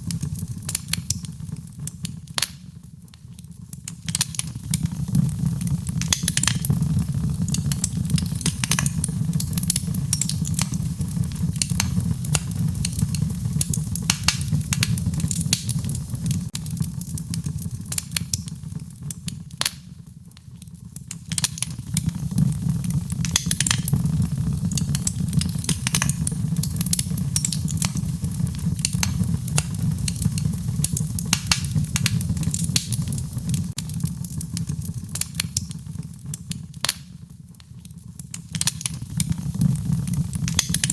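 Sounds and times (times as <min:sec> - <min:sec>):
fire pops and snaps: 0:00.0 - 0:40.9
wood fire crackling: 0:00.0 - 0:40.9.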